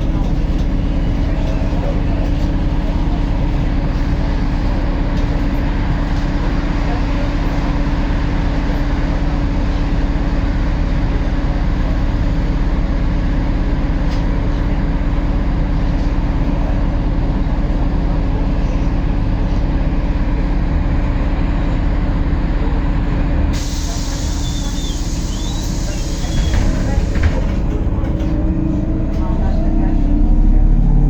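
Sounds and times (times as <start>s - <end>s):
bus diesel engine and road noise: 0.0s - 31.0s.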